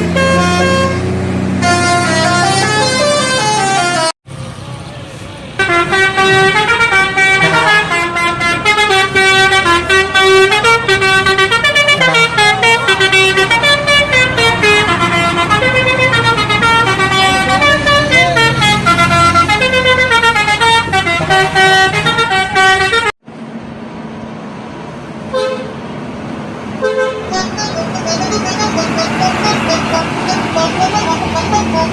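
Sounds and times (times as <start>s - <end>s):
bus horn playing melody: 0.0s - 4.2s, 5.6s - 23.2s, 25.3s - 25.8s, 26.8s - 31.9s.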